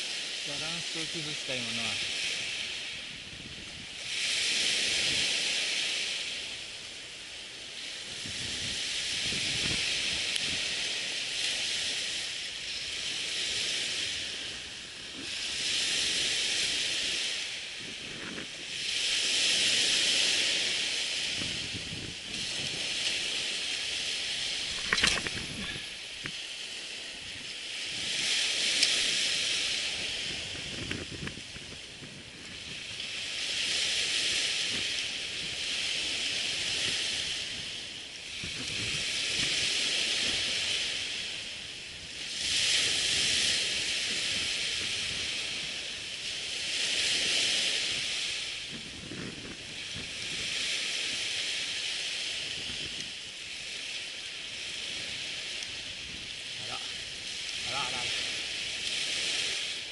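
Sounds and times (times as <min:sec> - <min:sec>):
surf washing up a beach: 0:00.0 - 0:59.9.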